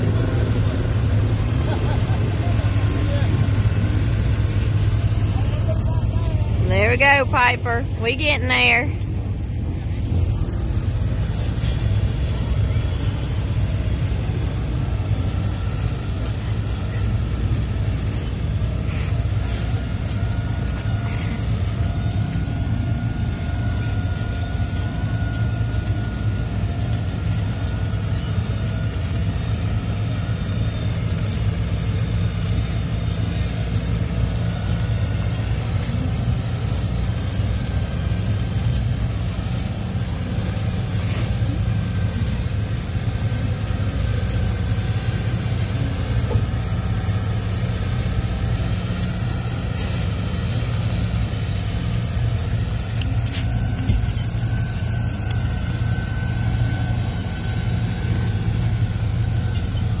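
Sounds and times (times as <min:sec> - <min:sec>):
vehicle engines rumbling: 0:00.0 - 1:00.0.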